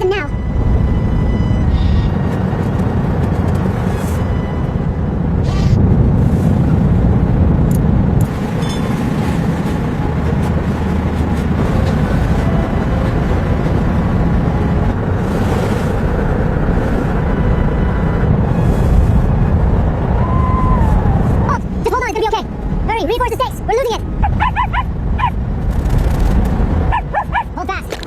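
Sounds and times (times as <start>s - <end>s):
storm wind blowing hard: 0.3s - 28.0s.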